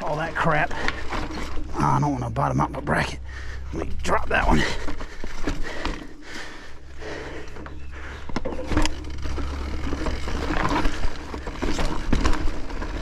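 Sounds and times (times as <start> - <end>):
low rumble: 0.0 - 11.4
bike rattling: 0.0 - 13.0
tyres grinding over rock: 0.0 - 13.0.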